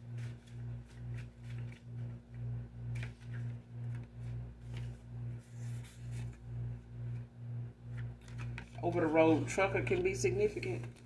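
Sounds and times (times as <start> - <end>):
steady higher hum: 0.0 - 11.0.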